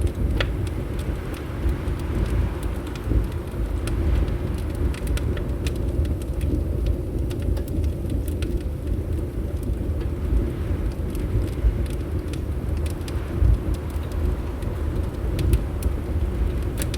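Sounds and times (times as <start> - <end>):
fireplace crackling and popping: 0.0 - 16.9
low rumble of wind: 0.0 - 16.9.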